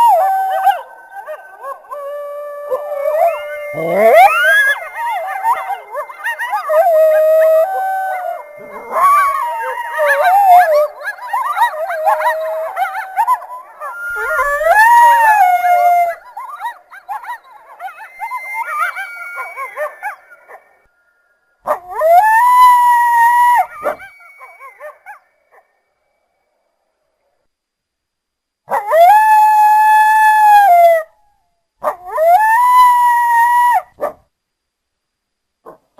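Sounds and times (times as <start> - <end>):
long coyote howl: 0.0 - 20.9, 21.6 - 25.3, 28.7 - 34.0
coyotes howling and yipping: 0.0 - 25.9, 28.7 - 34.2.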